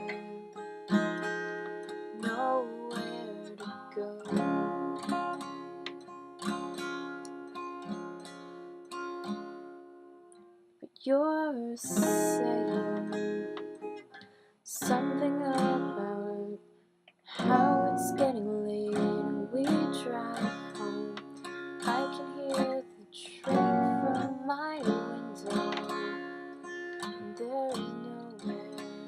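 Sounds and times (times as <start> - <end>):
acoustic guitar strumming: 0.0 - 10.3, 11.8 - 16.6, 17.4 - 29.0.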